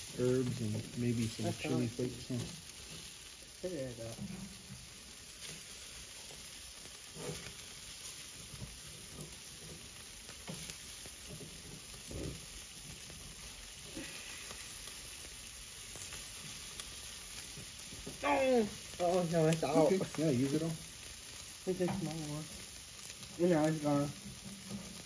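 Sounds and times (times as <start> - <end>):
meat sizzling on a grill: 0.0 - 25.0.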